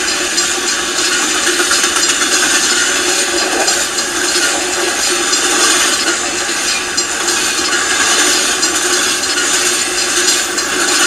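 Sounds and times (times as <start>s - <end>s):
freight train wheels clattering: 0.0s - 11.0s.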